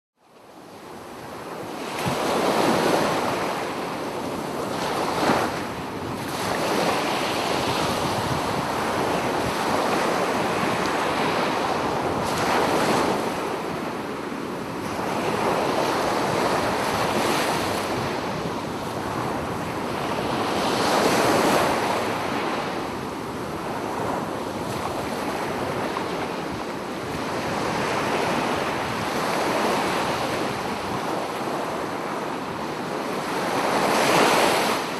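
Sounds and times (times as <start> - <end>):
sea waves breaking on beach: 0.7 - 34.9
wind buffeting microphone: 1.3 - 34.9.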